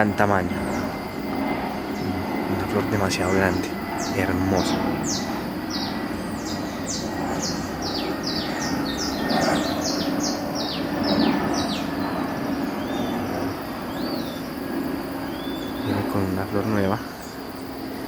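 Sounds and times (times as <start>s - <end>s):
steady low hum: 0.0s - 18.0s
soft bird chirps: 3.1s - 17.9s.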